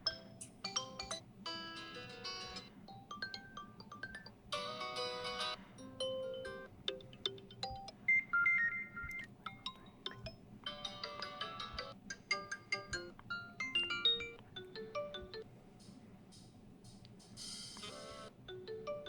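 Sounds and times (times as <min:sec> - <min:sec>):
phone ringtone melodies: 0:00.1 - 0:15.4, 0:17.8 - 0:19.0.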